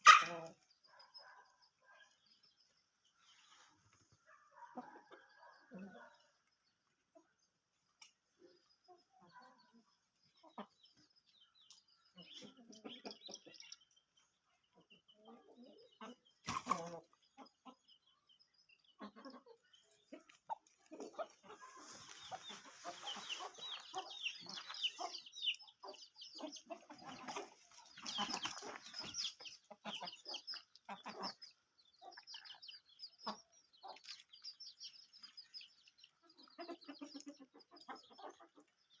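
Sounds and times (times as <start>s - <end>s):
chicks peeping and clucking: 0.0s - 39.0s.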